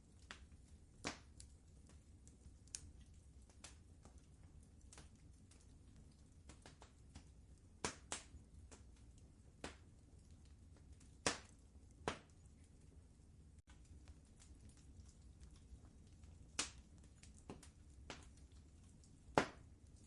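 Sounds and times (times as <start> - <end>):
fire pops and snaps: 0.0 - 13.0, 13.6 - 20.0
low steady rumble: 0.0 - 20.0
wood fire crackling: 0.0 - 20.0.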